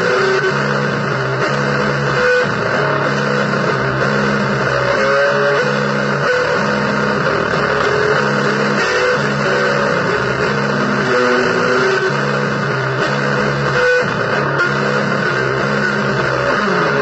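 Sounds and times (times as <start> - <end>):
dense noise: 0.0 - 17.0
electric guitar blues riff: 0.0 - 17.0.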